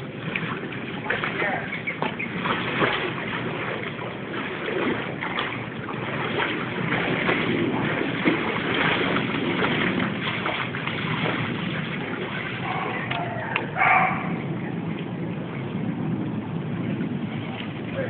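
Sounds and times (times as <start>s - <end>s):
steady rushing noise: 0.0s - 18.0s
water splashing and sloshing: 0.0s - 18.0s.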